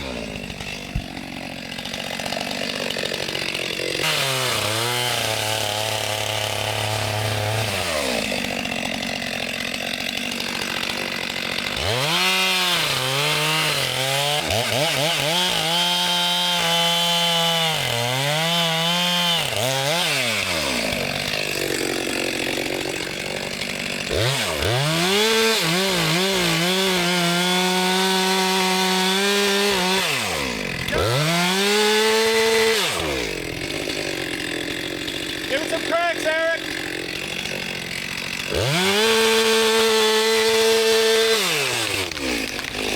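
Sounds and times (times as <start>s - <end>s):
chainsaw revving and cutting wood: 0.0s - 42.9s.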